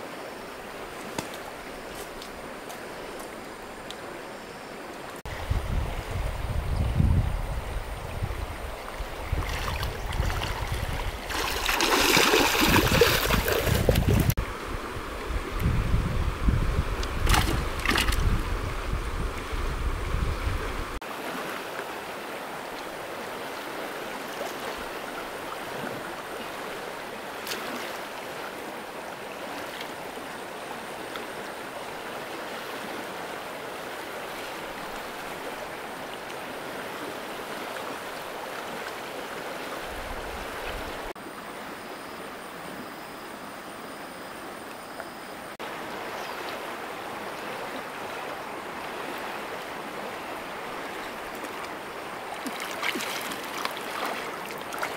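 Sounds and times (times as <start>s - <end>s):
shallow river flowing: 0.0s - 54.9s.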